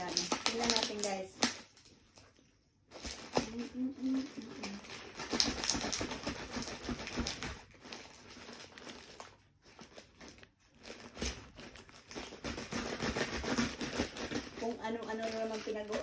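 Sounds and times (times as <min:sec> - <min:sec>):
plastic mailer bag crinkling: 0:00.0 - 0:16.0.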